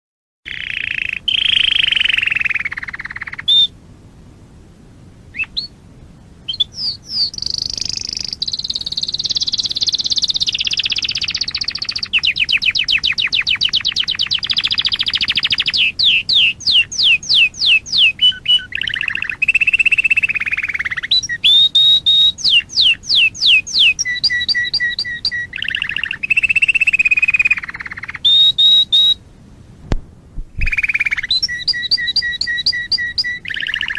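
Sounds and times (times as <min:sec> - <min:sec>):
canary singing trills: 0:00.5 - 0:03.8, 0:05.3 - 0:05.8, 0:06.5 - 0:29.2, 0:30.6 - 0:33.9.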